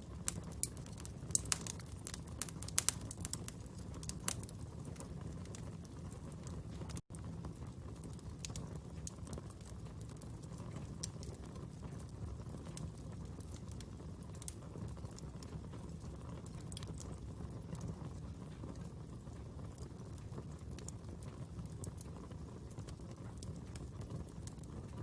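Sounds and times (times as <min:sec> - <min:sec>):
fire crackling and popping: 0:00.0 - 0:25.0
low rush of burning: 0:00.0 - 0:25.0.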